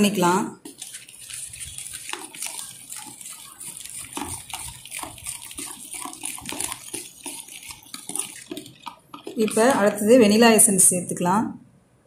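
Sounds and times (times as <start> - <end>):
spoon scraping bowl: 0.0 - 10.8
spoon stirring wet batter: 0.0 - 11.0.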